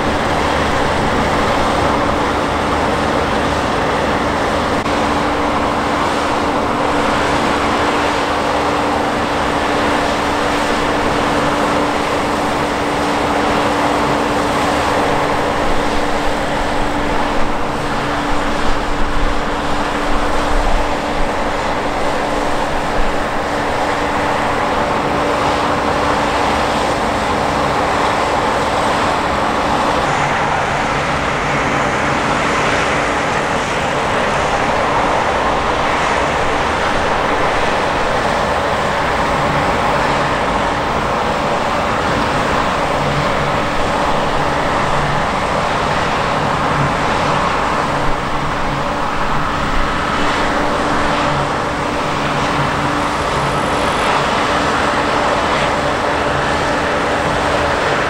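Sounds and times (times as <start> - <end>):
combine harvester machinery drone: 0.0 - 58.0.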